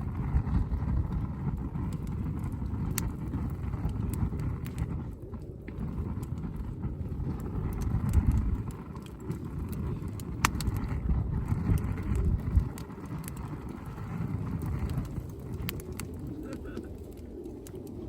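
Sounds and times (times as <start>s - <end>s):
campfire crackling and popping: 0.0s - 18.0s
low rumble: 0.0s - 18.0s.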